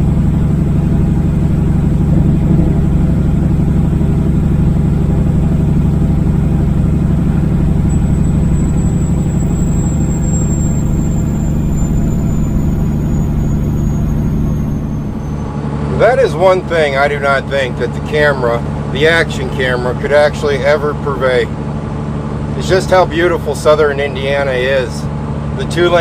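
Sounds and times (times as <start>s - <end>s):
road noise: 0.0s - 26.0s
truck diesel engine running: 0.0s - 26.0s.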